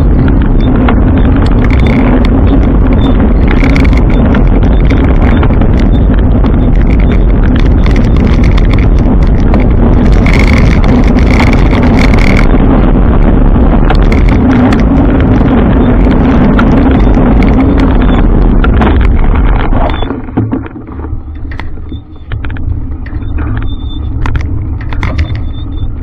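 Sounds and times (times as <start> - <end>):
bike rattling clicks: 0.0 - 26.0
high whine: 0.0 - 26.0
wind and road rumble: 0.0 - 26.0.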